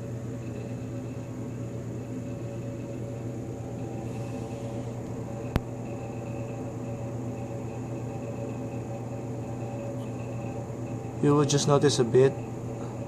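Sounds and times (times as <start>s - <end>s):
faint high whine: 0.0s - 13.0s
mechanical hum: 0.0s - 13.0s.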